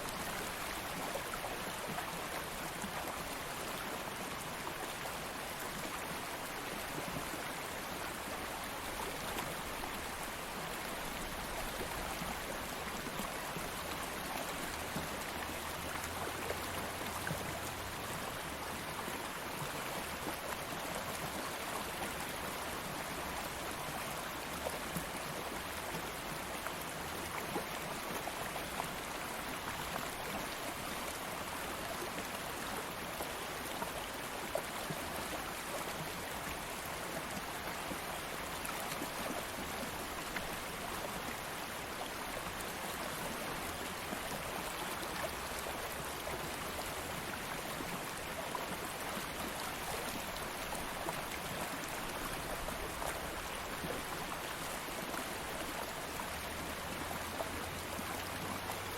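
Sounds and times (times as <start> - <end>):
stream of water rushing: 0.0 - 58.9.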